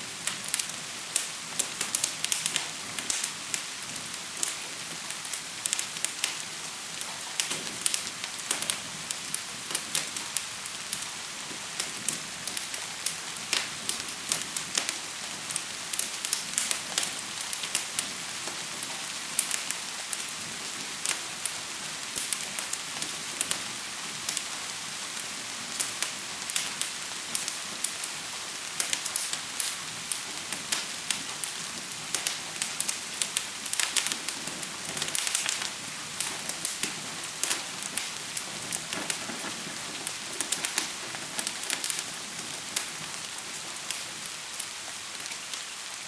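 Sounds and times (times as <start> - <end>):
gentle rain patter: 0.0 - 46.0
wood fire crackling: 0.0 - 46.0.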